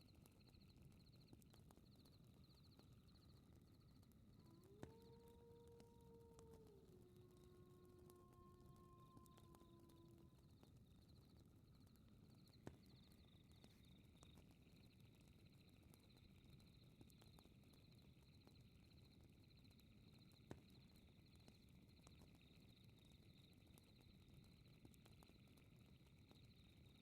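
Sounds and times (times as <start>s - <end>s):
fire crackles: 0.0s - 27.0s.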